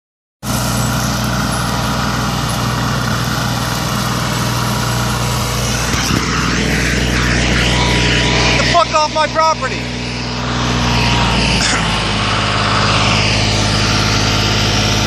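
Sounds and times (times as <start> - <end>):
rotary cutter mowing grass: 0.4 - 15.0
tractor diesel engine under load: 0.4 - 15.0.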